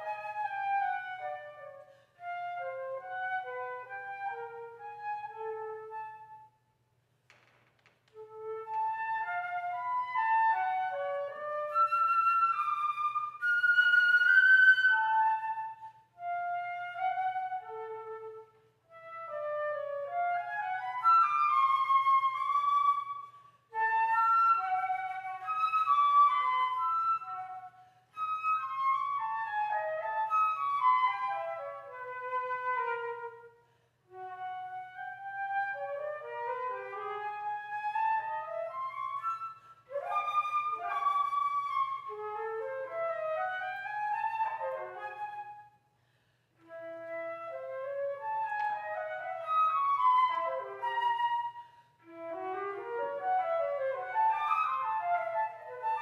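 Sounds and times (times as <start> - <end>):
solo flute playing: 0.0 - 6.8, 8.2 - 56.0.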